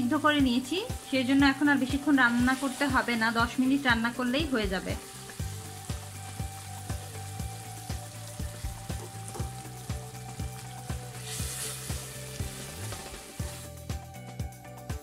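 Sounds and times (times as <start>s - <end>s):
meat sizzling in a pan: 0.0s - 14.2s.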